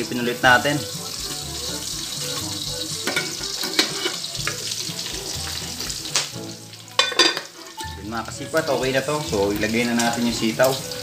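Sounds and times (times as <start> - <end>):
meat frying in oil: 0.0 - 11.0.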